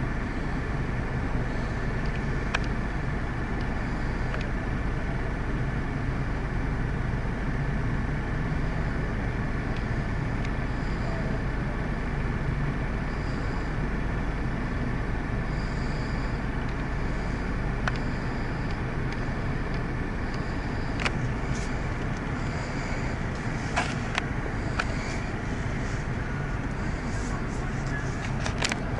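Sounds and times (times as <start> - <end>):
background traffic noise: 0.0 - 28.9
vehicle engine idling: 0.0 - 28.9.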